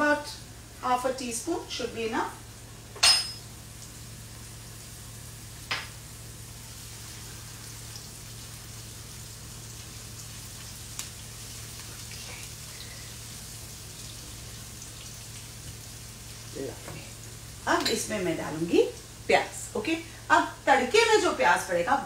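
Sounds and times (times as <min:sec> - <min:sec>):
food sizzling in hot fat: 0:00.0 - 0:22.0.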